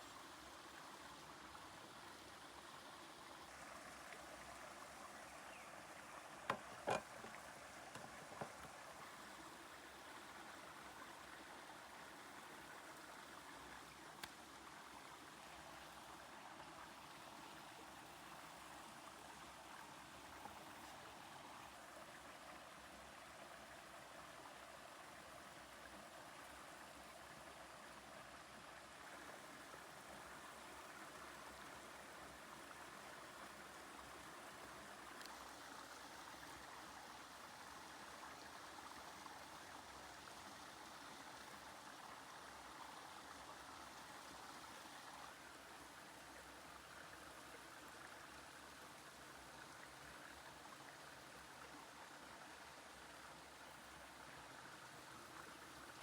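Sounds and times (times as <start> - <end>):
outdoor ambience hiss: 0.0 - 56.0.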